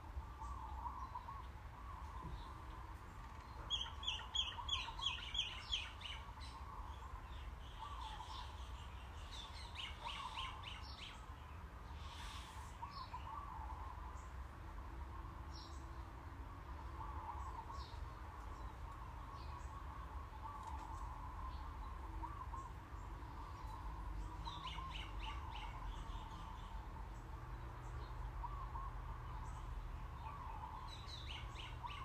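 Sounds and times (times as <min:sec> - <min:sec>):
birds chirping: 0:00.0 - 0:32.0
steady low hum: 0:00.0 - 0:32.0.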